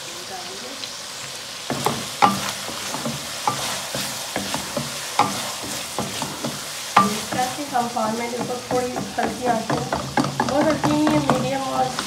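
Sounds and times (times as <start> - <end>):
meat sizzling in oil: 0.0 - 12.0
wooden spatula scraping metal pan: 1.7 - 12.0.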